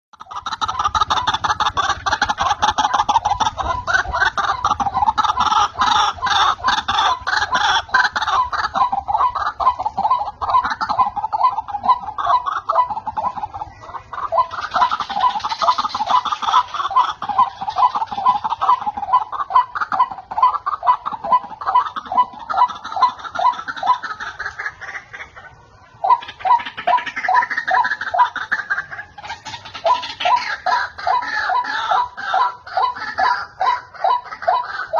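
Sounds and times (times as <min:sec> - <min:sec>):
waterhen calling: 0:00.2 - 0:34.9.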